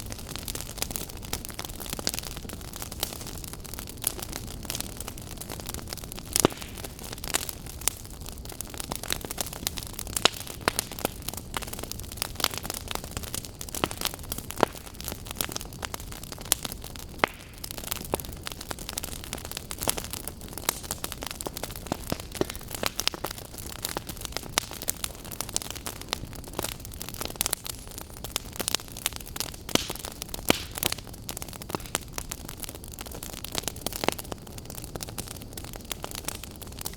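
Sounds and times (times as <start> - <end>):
fire crackling and popping: 0.0 - 36.9
low rush of flame: 0.0 - 36.9.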